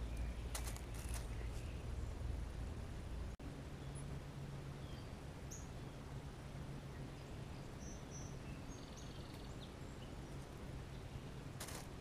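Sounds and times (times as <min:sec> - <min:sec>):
distant small birds chirping: 0:00.0 - 0:12.0
low hum: 0:00.0 - 0:12.0
woodland background hiss: 0:00.0 - 0:12.0.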